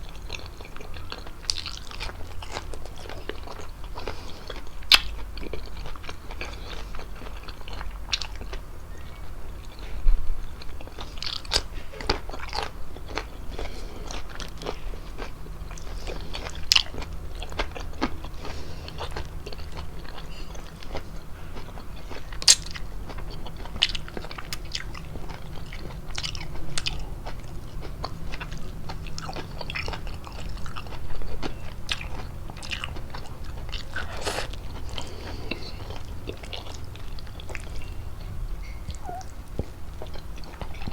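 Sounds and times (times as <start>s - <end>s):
chewing with mouth clicks: 0.0s - 40.9s.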